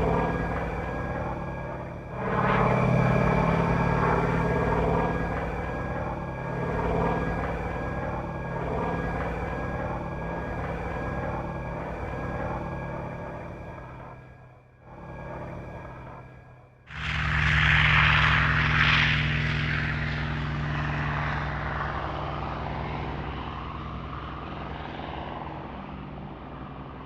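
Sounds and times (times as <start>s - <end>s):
throbbing radial engine sound: 0.0s - 27.0s.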